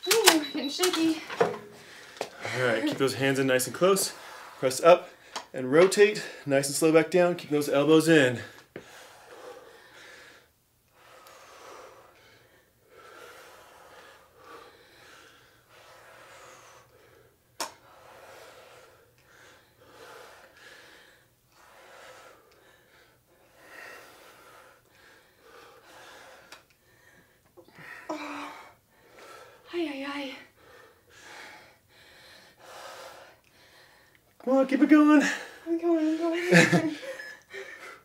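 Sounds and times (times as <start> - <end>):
heavy breathing: 1.0 - 5.5, 8.4 - 34.3, 35.2 - 38.0.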